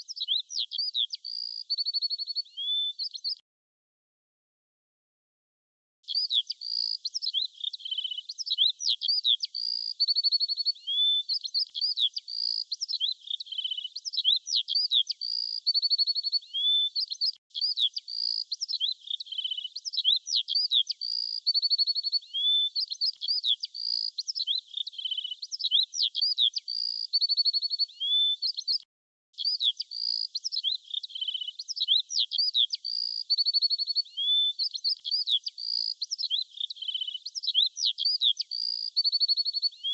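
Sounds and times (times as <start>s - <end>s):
songbirds chirping and trilling: 0.0s - 3.4s, 6.0s - 39.9s.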